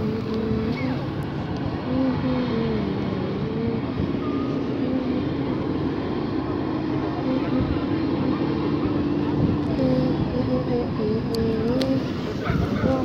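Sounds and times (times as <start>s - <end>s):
city engine rumble: 0.0s - 13.0s
low hum: 0.0s - 13.0s.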